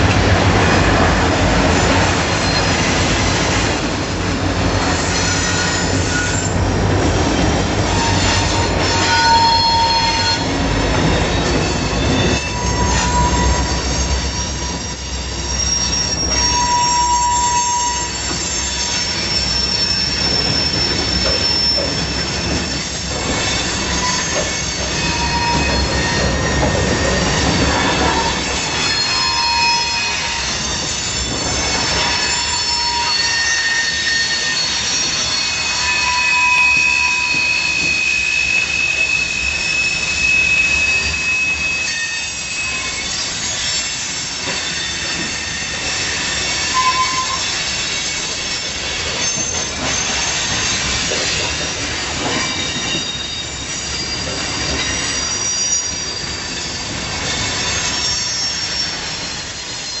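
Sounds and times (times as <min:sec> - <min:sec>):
wheels squealing: 0:07.3 - 1:00.0.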